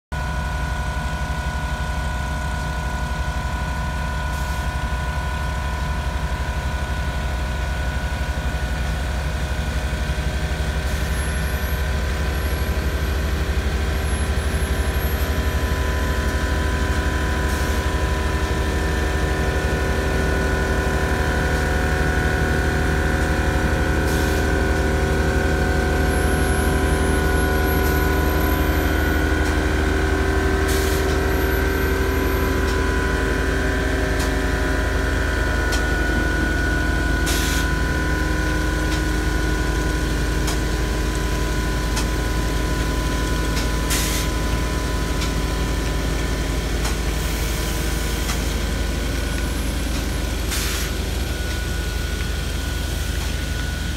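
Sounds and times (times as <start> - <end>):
engine low rumble: 0.0 - 53.9
constant whine: 0.2 - 53.9.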